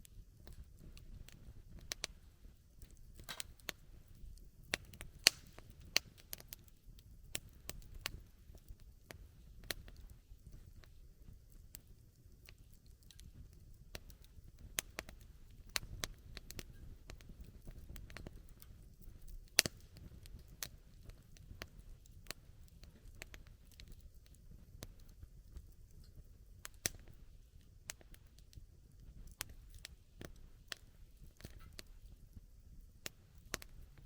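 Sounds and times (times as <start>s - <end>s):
campfire crackling and popping: 0.0s - 34.0s
low rumble of flames: 0.0s - 34.0s.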